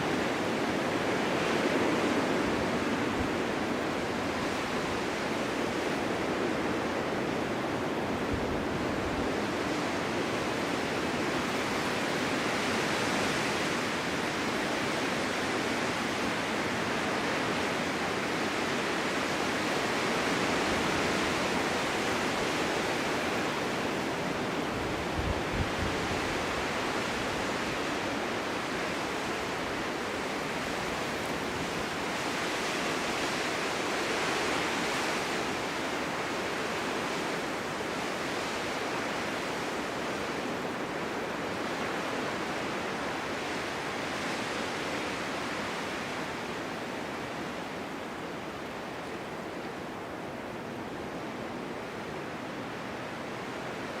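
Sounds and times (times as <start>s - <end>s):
wind blowing in a snowstorm: 0.0s - 54.0s
wind buffeting the microphone: 0.0s - 54.0s.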